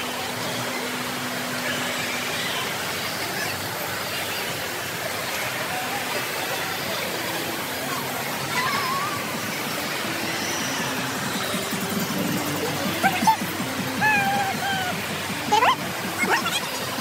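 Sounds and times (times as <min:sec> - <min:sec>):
crowd hubbub echoing: 0:00.0 - 0:17.0
rush of falling water: 0:00.0 - 0:17.0
voice: 0:01.6 - 0:17.0.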